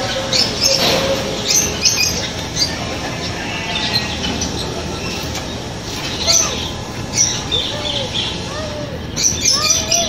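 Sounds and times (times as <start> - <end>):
birds chirping and squawking: 0.0 - 10.0
steady background noise: 0.0 - 10.0.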